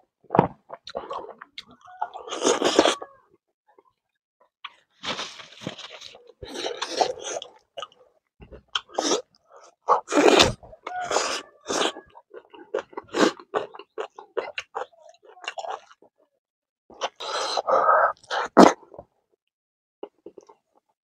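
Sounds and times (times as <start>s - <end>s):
man chewing food: 0.3s - 3.1s, 4.7s - 16.2s, 16.9s - 19.1s, 20.0s - 21.0s.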